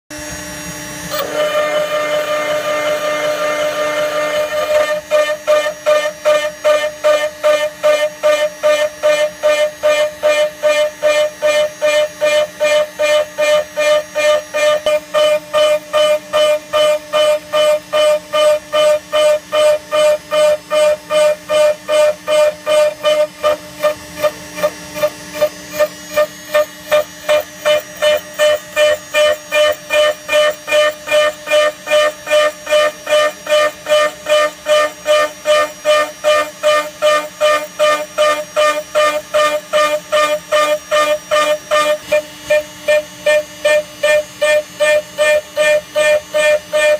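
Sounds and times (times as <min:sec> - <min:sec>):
pulsing router whine cutting steel: 0:00.1 - 0:46.9
spindle hum: 0:00.2 - 0:46.9.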